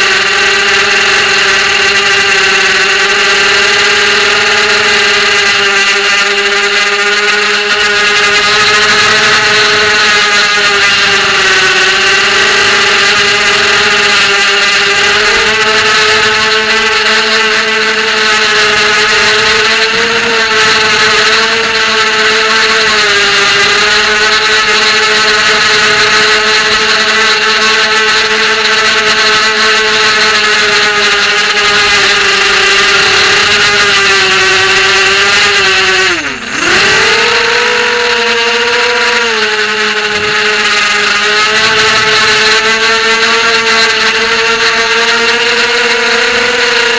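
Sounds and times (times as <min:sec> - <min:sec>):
quadcopter motors whining: 0:00.0 - 0:46.9.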